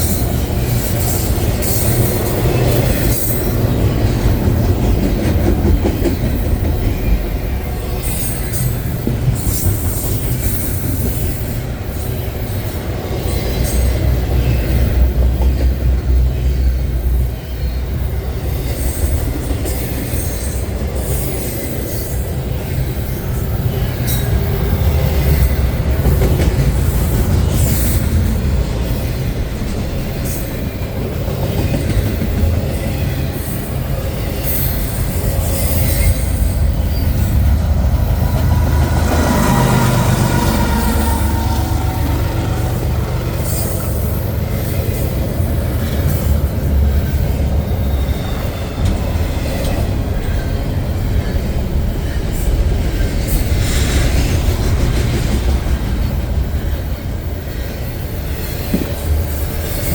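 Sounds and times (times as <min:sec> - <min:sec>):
freight train wheels rumbling: 0:00.0 - 0:59.9
wheel flanges squealing on rail: 0:00.0 - 0:59.9.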